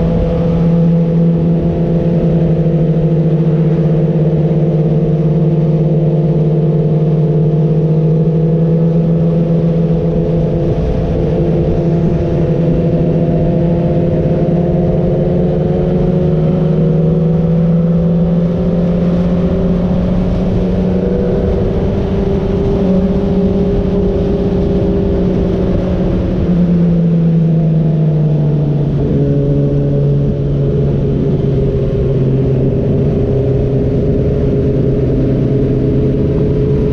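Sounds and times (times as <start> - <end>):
wind rush: 0.0 - 5.6, 6.2 - 36.9
motorcycle engine cruising: 0.0 - 36.9.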